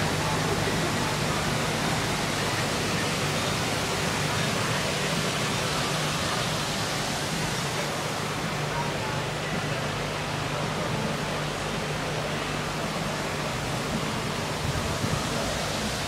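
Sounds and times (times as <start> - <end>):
water rushing through lock: 0.0 - 16.0.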